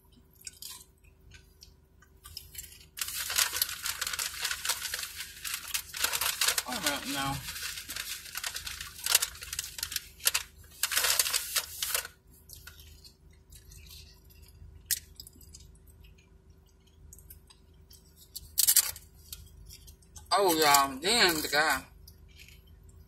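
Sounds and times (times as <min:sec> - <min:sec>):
chips crunching and chewing: 0:00.1 - 0:23.0
crinkling: 0:00.2 - 0:23.0.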